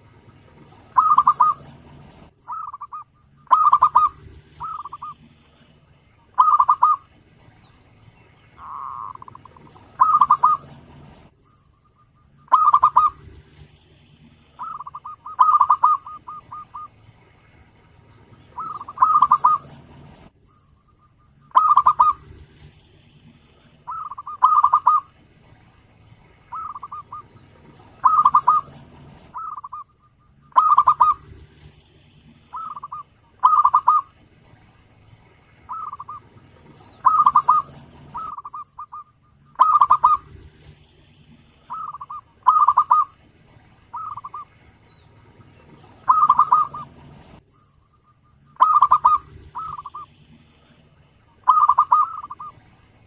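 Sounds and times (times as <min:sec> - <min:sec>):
dove cooing: 0:00.0 - 0:07.5, 0:08.6 - 0:17.0, 0:18.2 - 0:22.7, 0:23.3 - 0:25.6, 0:26.3 - 0:34.8, 0:35.6 - 0:40.8, 0:41.4 - 0:47.4, 0:48.4 - 0:52.6.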